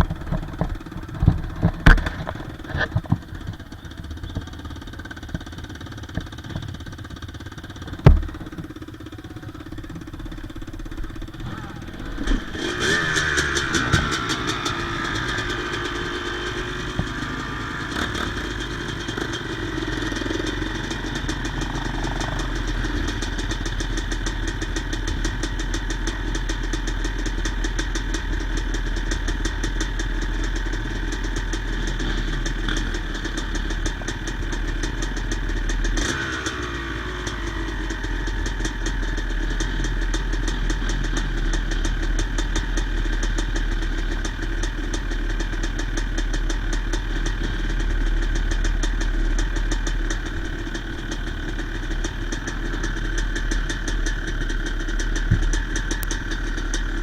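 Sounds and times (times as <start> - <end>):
two-stroke dirt bike engine idling: 0.0 - 57.0.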